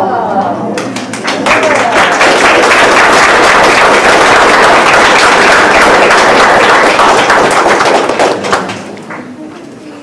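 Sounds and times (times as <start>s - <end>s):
audience applauding: 0.9s - 9.3s.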